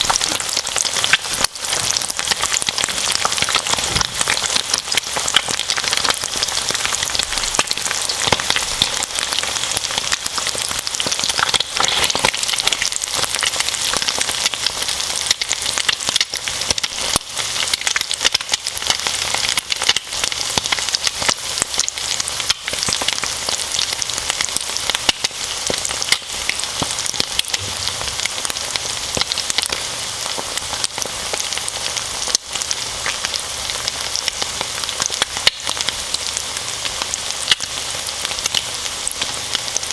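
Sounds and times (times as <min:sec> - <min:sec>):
bacon and eggs sizzling: 0:00.0 - 0:39.9.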